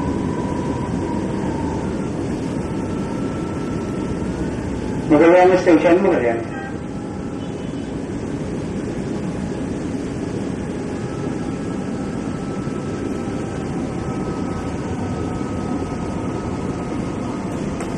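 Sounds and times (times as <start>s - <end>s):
train rumbling on track: 0.0s - 17.9s.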